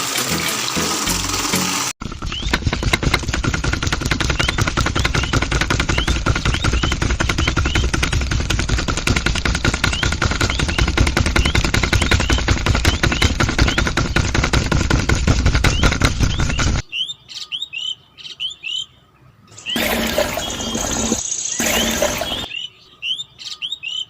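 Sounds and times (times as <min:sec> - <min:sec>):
machine clattering with whine: 0:00.1 - 0:16.8, 0:19.7 - 0:22.5
birds chirping: 0:02.0 - 0:24.0.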